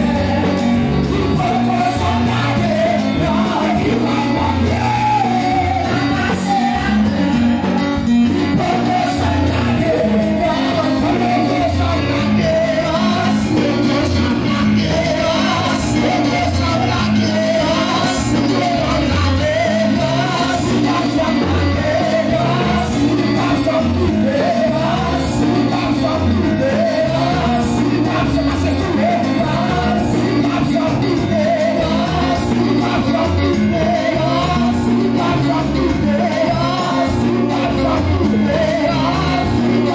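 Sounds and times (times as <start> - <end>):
bass: 0.0 - 39.9
lead singer singing: 0.0 - 39.9.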